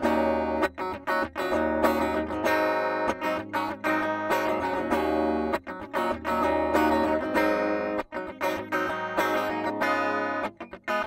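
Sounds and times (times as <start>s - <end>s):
clean electric guitar chords: 0.0s - 11.0s.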